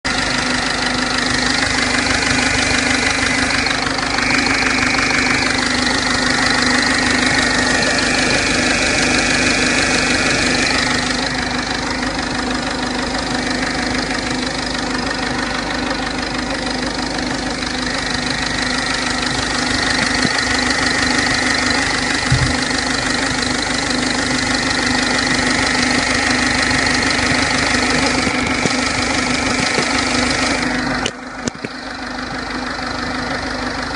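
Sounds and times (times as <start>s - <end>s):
diesel engine idling: 0.0s - 33.9s
high engine whine: 0.0s - 33.9s.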